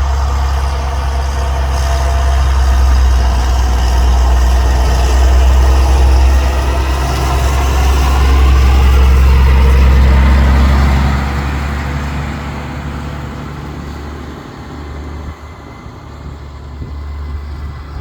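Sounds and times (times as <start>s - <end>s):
tractor diesel engine rumbling: 0.0s - 18.0s.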